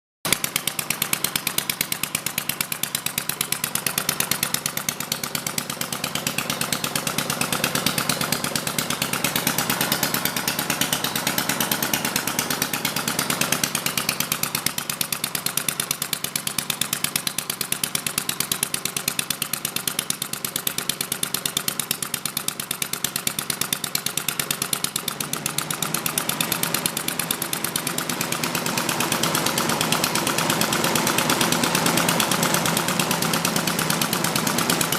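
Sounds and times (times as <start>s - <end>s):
engine running with sharp knocks: 0.2s - 34.9s.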